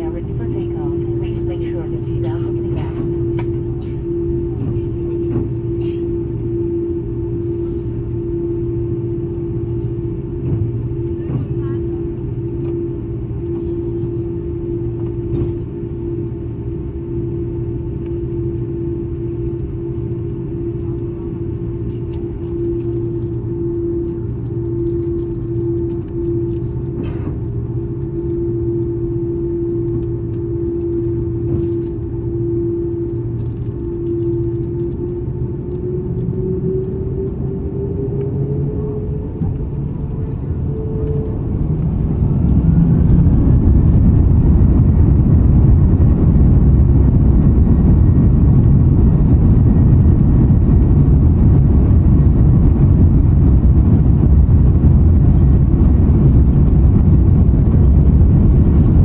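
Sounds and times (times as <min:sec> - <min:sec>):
jet engine whine rising: 0:00.0 - 0:59.0
loud jet engine rumble: 0:00.0 - 0:59.0.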